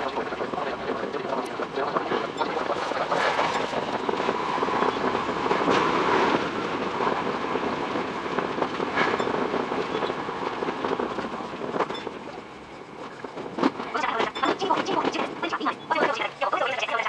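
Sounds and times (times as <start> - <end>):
train wheel and track rattle: 0.0 - 17.0.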